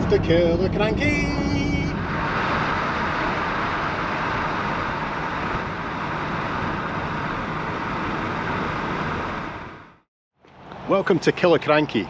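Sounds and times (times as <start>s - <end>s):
low engine rumble: 0.0s - 11.4s
tyre and road noise: 0.0s - 12.0s.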